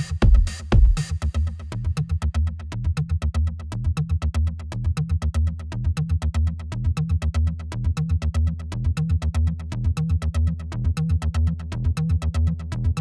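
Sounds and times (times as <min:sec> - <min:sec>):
electronic music with fast beat: 0:00.0 - 0:04.0, 0:05.1 - 0:13.0.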